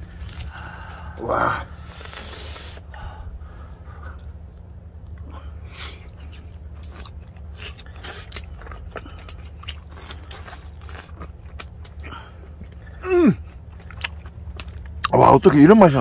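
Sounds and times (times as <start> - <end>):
person chewing: 0.0 - 15.2
steady low hum: 0.0 - 16.0.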